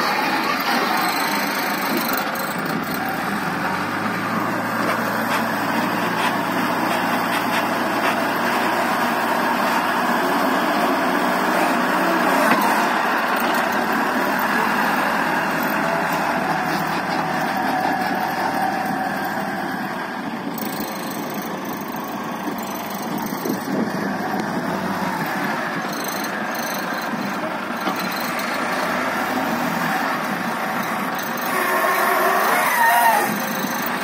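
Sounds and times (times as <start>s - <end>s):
diesel engine running: 0.0s - 34.0s
loader bucket scooping soil: 0.0s - 34.0s.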